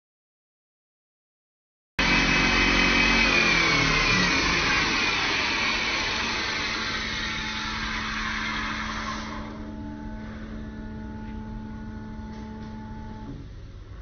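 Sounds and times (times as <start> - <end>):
wood lathe motor whine: 2.0 - 13.4.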